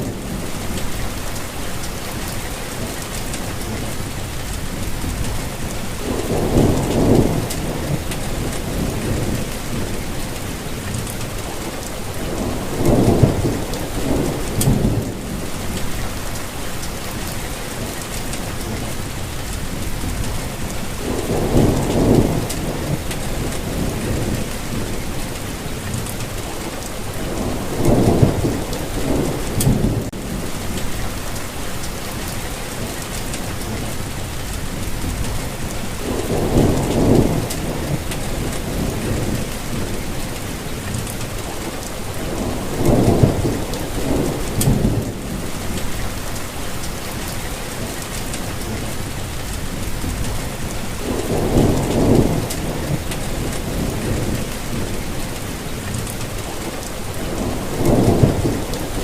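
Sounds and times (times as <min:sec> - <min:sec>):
low rumbles of thunder: 0:00.0 - 0:59.0
steady rain falling: 0:00.0 - 0:59.0.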